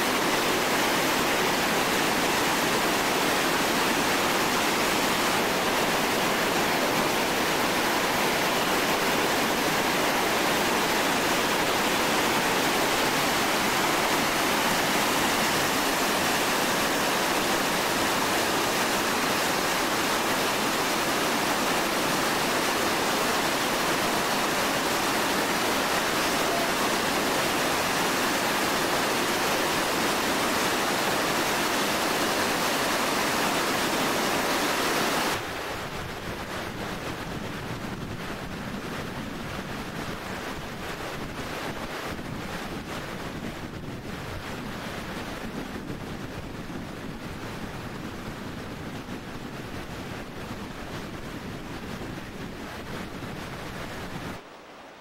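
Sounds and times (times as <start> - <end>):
water rushing over boulders: 0.0 - 55.0.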